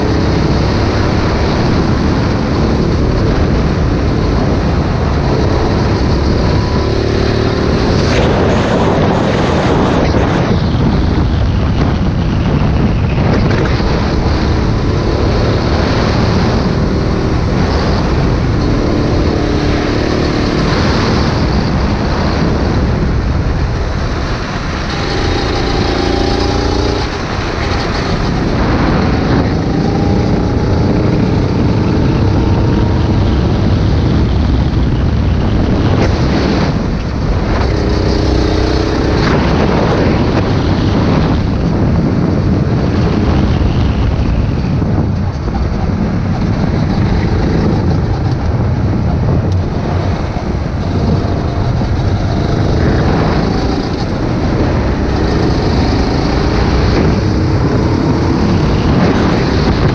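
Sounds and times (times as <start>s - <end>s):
go-kart engine: 0.0s - 59.9s
wind noise on microphone: 0.0s - 59.9s.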